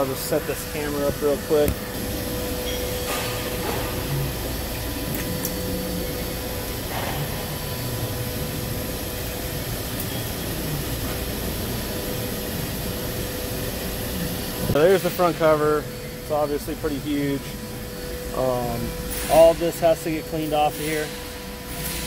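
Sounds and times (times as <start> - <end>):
machine whir and hiss: 0.0 - 22.0.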